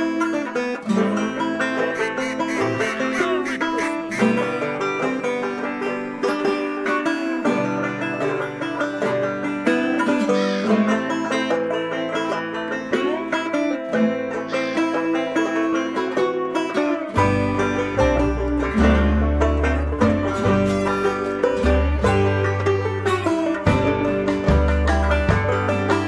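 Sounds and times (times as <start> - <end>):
plucked string bluegrass music: 0.0 - 26.0.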